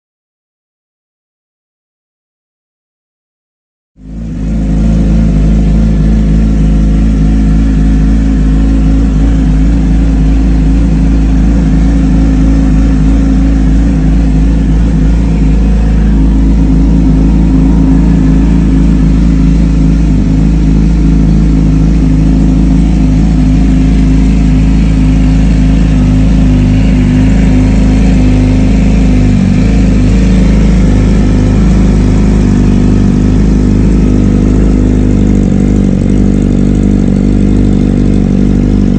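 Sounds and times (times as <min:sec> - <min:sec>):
motorcycle engine idling: 0:04.0 - 0:38.9.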